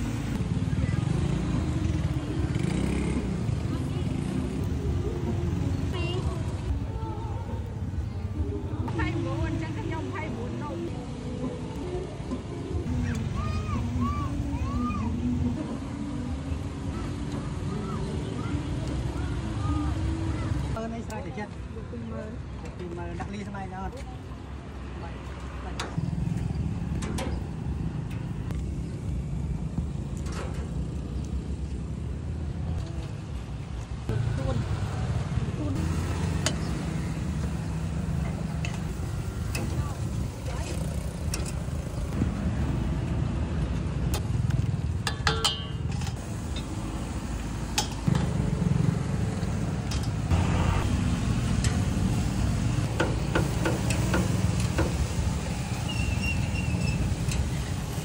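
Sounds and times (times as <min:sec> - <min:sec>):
street noise rumble: 0:00.0 - 0:58.0.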